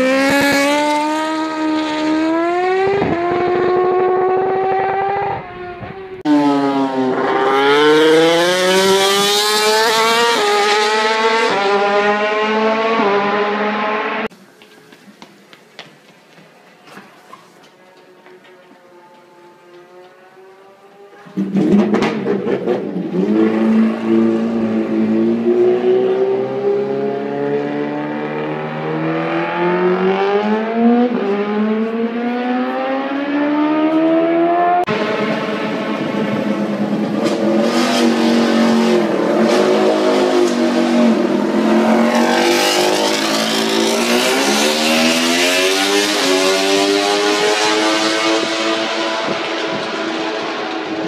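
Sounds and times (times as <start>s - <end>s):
racing motorcycle engine revving: 0.0s - 14.3s, 19.3s - 51.0s.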